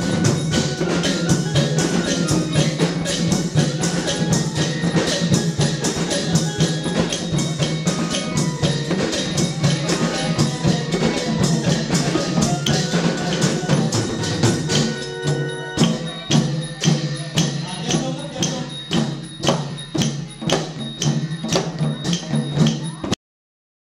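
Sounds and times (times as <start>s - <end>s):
cymbals ringing: 0.0s - 23.2s
long drums ensemble: 0.0s - 23.2s.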